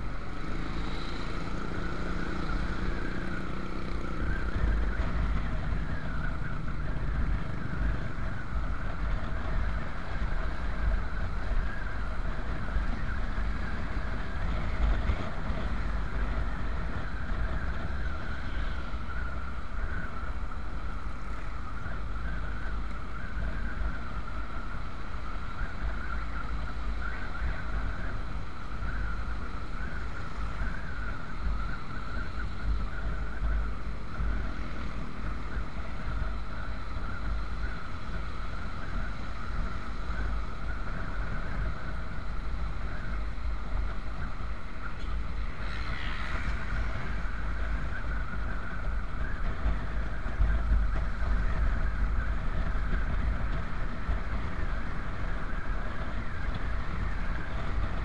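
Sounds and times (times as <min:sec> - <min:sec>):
motorcycle engine drone: 0:00.0 - 0:58.0
wind buffeting on helmet microphone: 0:00.0 - 0:58.0.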